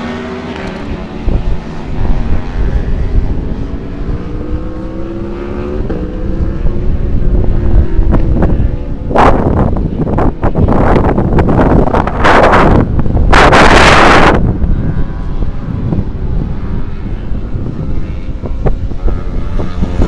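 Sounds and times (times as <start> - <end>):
aircraft engine running: 0.0 - 20.0
wind buffeting microphone: 0.0 - 20.0.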